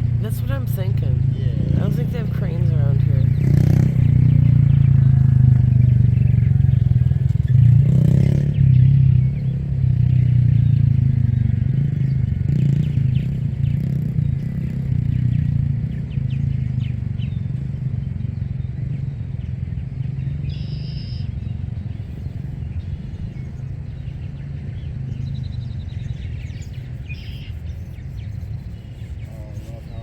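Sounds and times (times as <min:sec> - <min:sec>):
low engine rumble: 0:00.0 - 0:30.0.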